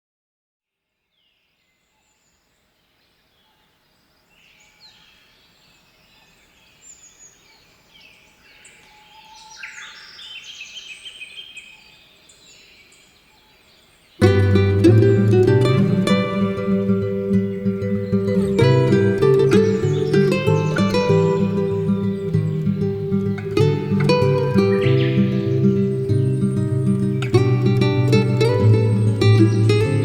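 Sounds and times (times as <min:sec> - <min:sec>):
birds chirping: 0:04.1 - 0:30.0.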